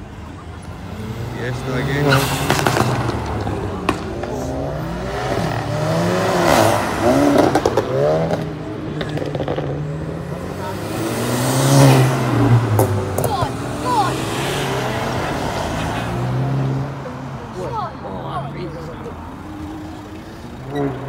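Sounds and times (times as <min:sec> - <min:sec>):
cars driving past revving: 0:00.0 - 0:21.0.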